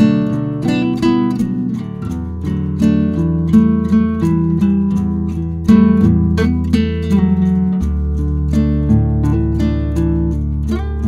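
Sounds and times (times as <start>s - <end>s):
acoustic guitar picking a melody: 0.0s - 11.0s
sustained bass line: 0.0s - 11.0s.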